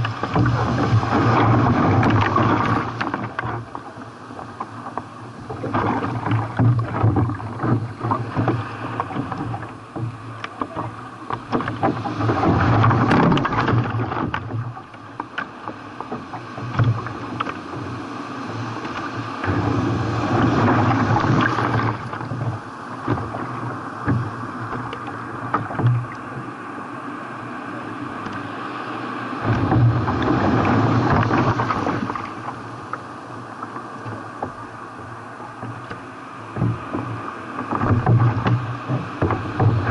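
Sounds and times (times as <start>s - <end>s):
sea water splashing around kayak: 0.0s - 39.9s.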